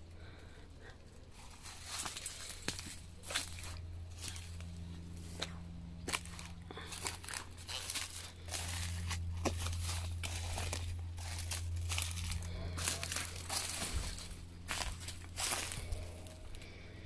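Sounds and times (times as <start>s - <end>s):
steady low hum: 0.0s - 17.0s
footsteps crunching on rough ground: 1.3s - 16.8s.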